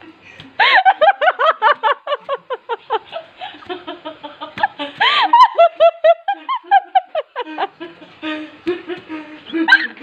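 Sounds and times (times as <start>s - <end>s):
person giggling: 0.1s - 10.0s.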